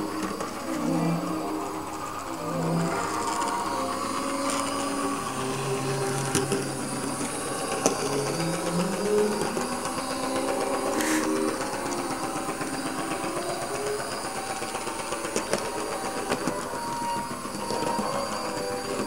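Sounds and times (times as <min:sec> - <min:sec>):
model tram motor whirring: 0:00.0 - 0:19.0.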